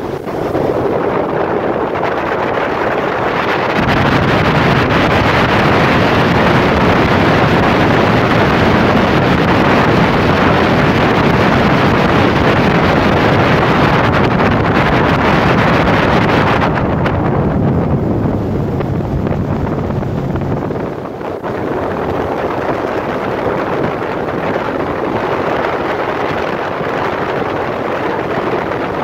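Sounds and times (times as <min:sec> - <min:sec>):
motorboat engine: 0:00.0 - 0:29.0
rushing water: 0:00.0 - 0:29.0
wind buffeting microphone: 0:00.0 - 0:29.0.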